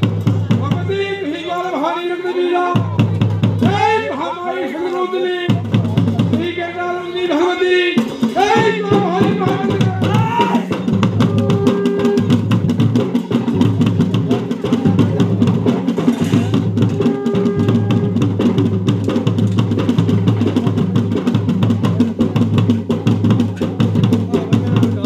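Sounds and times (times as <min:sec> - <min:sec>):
fast ritual drumming: 0:00.0 - 0:25.0.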